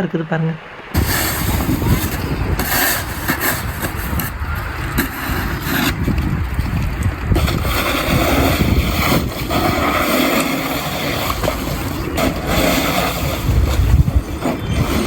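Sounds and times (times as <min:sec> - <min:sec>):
wind buffeting microphone: 0:00.7 - 0:15.0.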